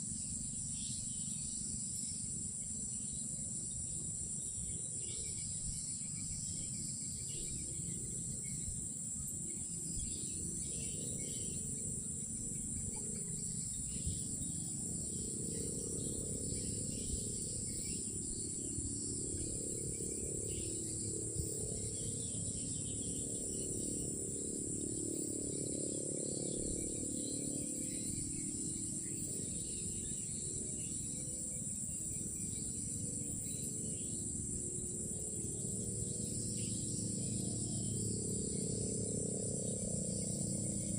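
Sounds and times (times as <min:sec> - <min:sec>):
crickets droning: 0:00.0 - 0:40.9.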